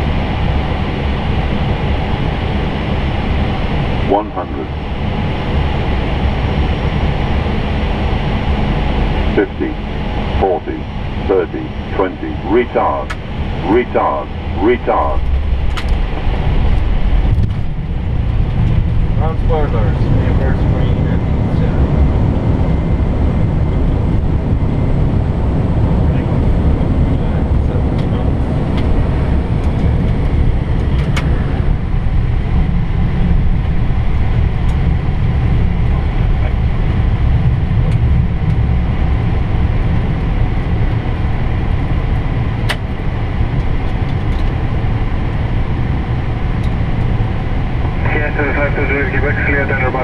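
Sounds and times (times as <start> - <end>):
airliner engine and runway rumble: 0.0 - 50.0.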